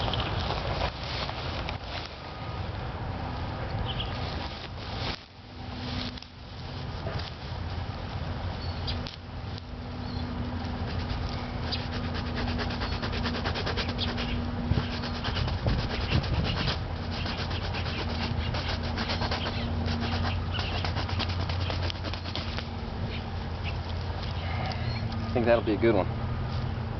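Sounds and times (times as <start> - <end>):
dry stalk rustling and scraping: 0.0 - 26.7
sharp crackles of dry stalk: 0.0 - 26.7.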